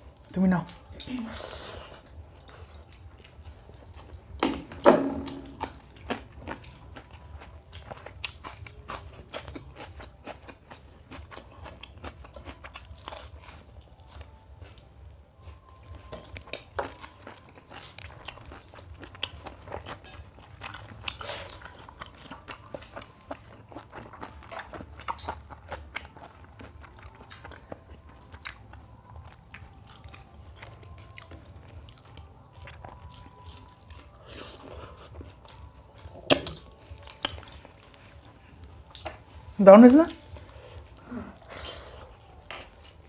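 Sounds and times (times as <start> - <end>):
people chewing food: 0.0 - 43.0.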